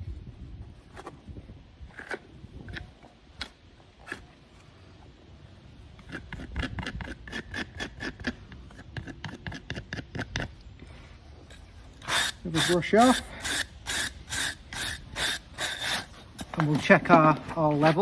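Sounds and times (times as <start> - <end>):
hoof knife scraping: 1.9 - 4.9, 5.8 - 18.0.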